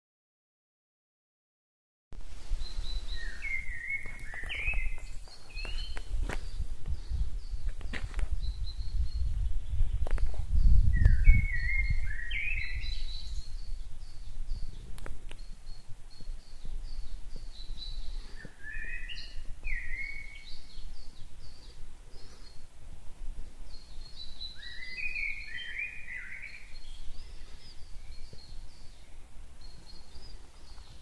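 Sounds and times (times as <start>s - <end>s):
birds chirping and singing: 2.6s - 22.7s, 23.6s - 31.0s.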